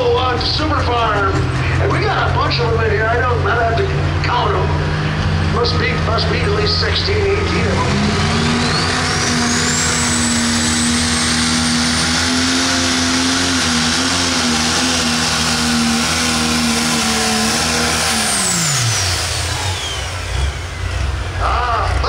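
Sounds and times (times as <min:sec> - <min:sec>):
diesel engine at full throttle: 0:00.0 - 0:22.0.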